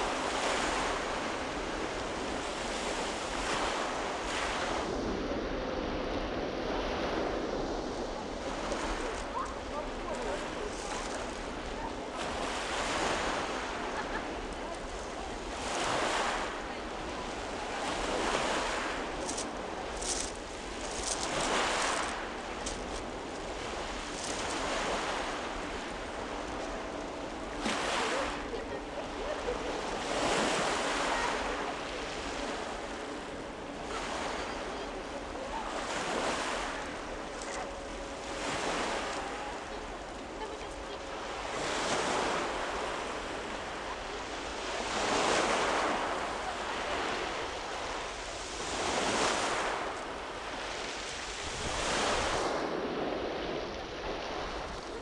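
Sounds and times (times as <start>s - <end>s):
waves breaking on pebble beach: 0.0s - 55.0s.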